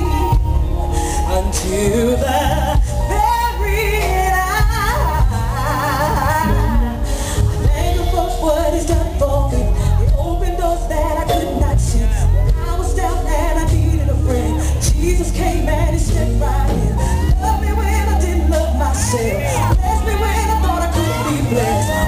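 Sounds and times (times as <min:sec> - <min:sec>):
gospel band with heavy bass: 0:00.0 - 0:22.0.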